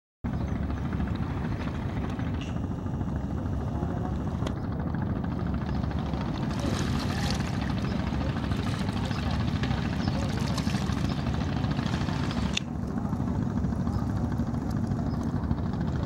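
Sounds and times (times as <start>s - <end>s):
boat engine chugging: 0.3s - 16.0s.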